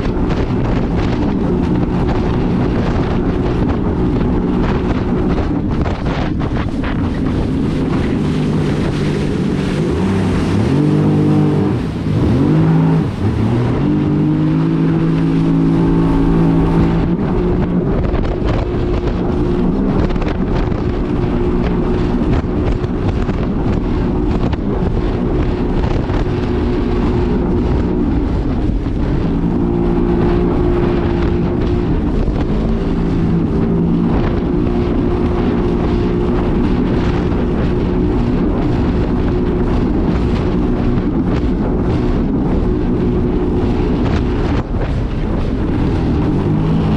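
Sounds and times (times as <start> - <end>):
watercraft engine running: 0.0 - 46.9
wind buffeting microphone: 0.0 - 46.9.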